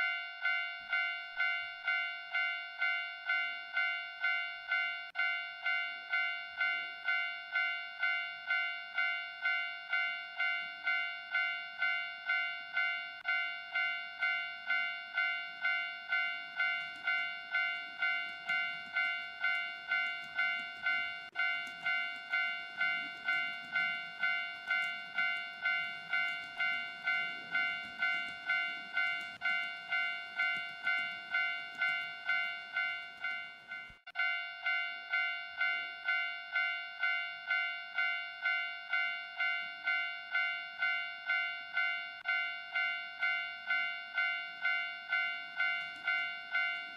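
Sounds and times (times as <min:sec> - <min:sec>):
level crossing bell clanging: 0:00.0 - 0:46.9.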